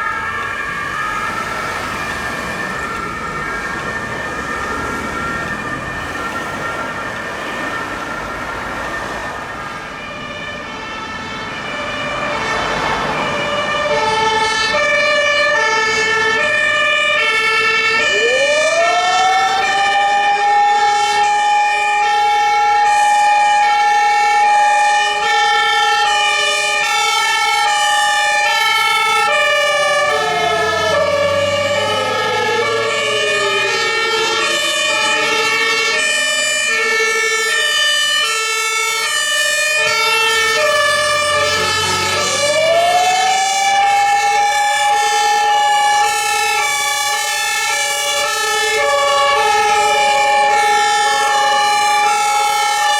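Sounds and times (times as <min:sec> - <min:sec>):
two-tone emergency sirens: 0:00.0 - 0:52.9.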